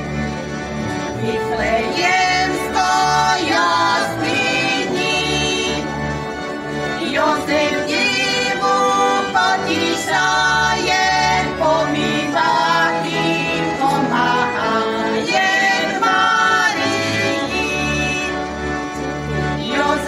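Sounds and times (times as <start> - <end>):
folk ensemble singing: 0.0 - 20.0.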